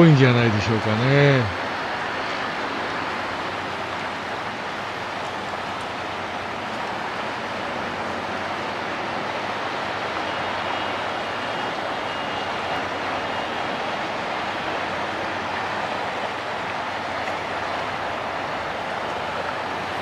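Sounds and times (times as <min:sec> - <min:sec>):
distant road traffic: 0:00.0 - 0:20.0.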